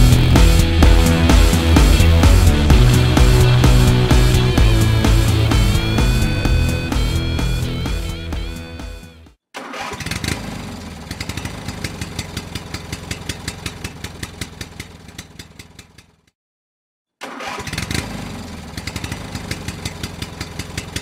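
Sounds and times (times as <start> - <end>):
motorcycle engine starting and idling: 0.0 - 16.2, 17.2 - 21.0.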